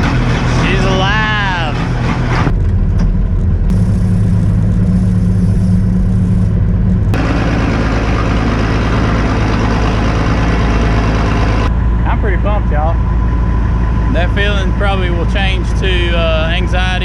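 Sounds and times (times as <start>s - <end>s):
combine engine idling: 0.0s - 17.0s.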